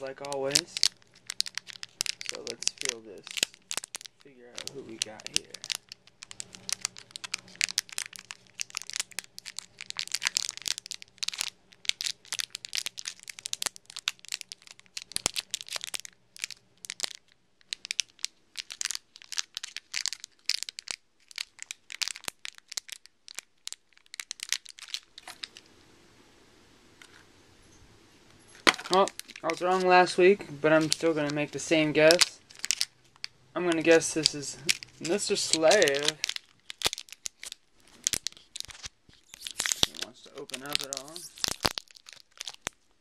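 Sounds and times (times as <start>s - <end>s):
plastic packaging crackling: 0.0s - 25.7s, 28.4s - 43.0s.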